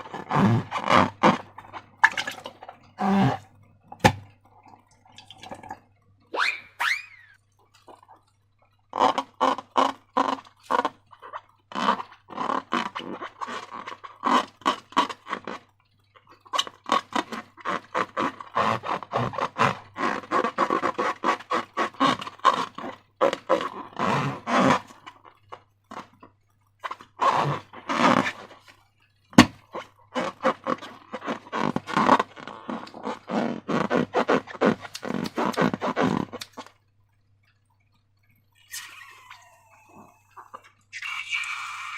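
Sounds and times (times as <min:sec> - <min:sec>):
wet slime squishing: 0:00.0 - 0:41.9.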